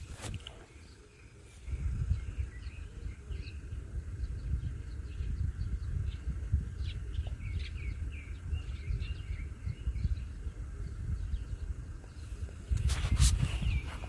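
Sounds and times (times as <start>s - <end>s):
low outdoor rumble: 0.0s - 14.0s
small birds chirping: 0.0s - 14.0s.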